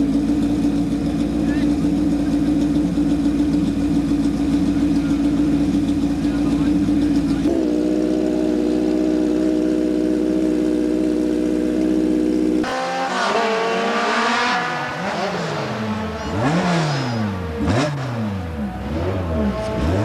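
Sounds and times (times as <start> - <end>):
engine revving: 0.0 - 20.0
racing engine running steadily: 0.0 - 20.0.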